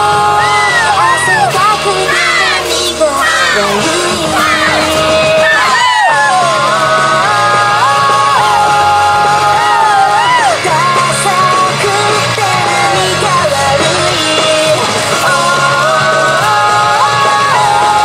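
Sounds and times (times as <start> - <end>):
recorded song with singing: 0.0 - 18.0.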